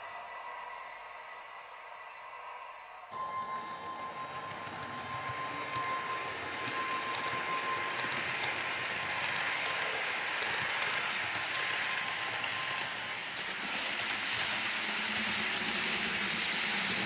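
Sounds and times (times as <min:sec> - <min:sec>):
model train wheels on rail: 0:03.2 - 0:17.0.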